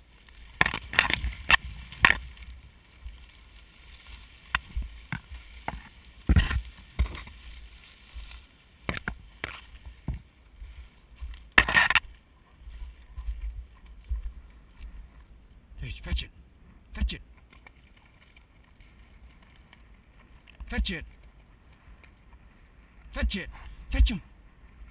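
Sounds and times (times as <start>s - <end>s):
dry reeds rustling against camera: 0.0s - 24.9s.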